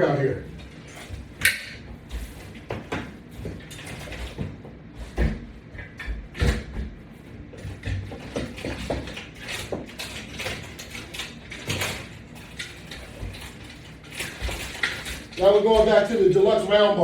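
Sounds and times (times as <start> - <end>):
exercise equipment knocks and creaks: 0.9 - 16.5.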